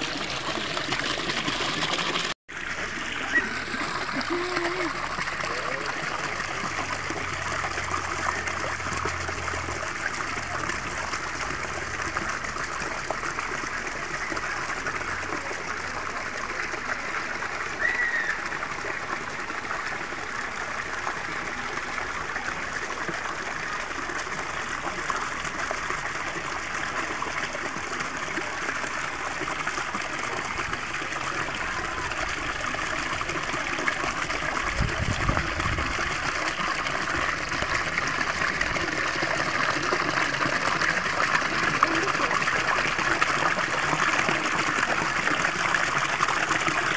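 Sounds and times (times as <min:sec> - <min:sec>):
fountain water splashing into basin: 0:00.0 - 0:46.9.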